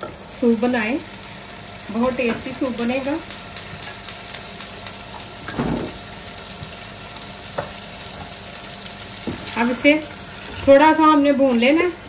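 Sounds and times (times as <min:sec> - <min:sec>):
chicken sizzling in butter: 0:00.0 - 0:12.0.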